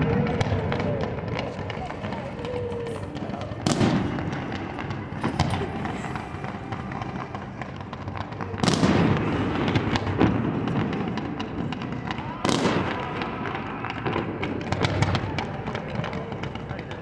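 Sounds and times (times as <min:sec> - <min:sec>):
firework bursts: 0:00.0 - 0:17.0
firework crackling: 0:00.0 - 0:17.0.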